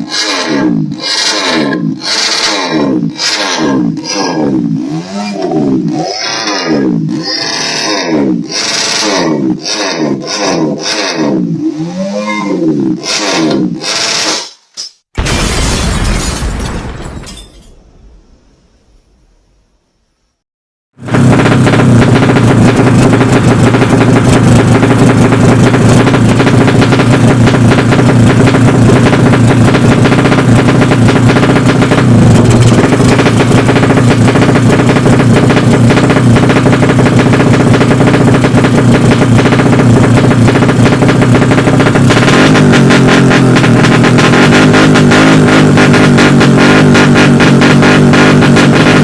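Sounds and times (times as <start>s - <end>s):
engine running at high revs: 0.0s - 14.6s, 21.0s - 49.0s.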